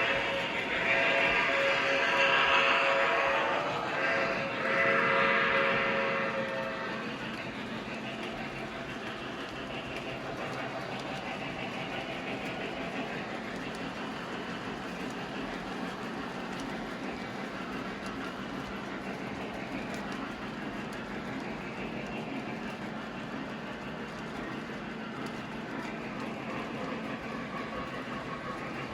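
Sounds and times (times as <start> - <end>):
model train rolling rumble: 0.0 - 28.9.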